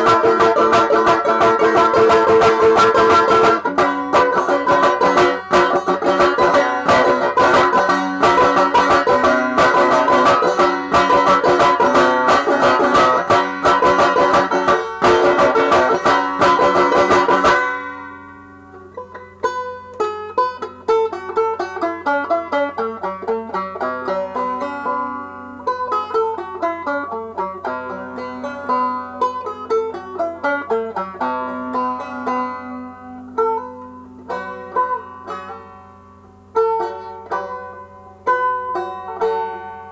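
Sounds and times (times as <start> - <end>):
banjo strumming and picking: 0.0 - 39.9.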